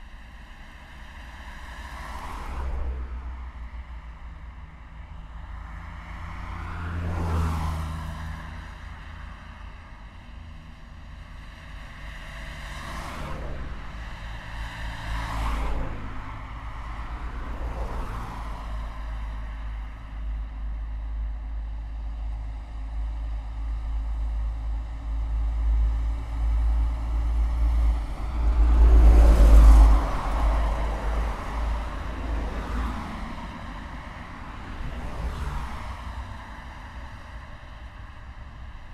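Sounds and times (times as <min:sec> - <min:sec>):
low traffic rumble: 0:00.0 - 0:38.9
vehicles passing close by: 0:00.0 - 0:38.9.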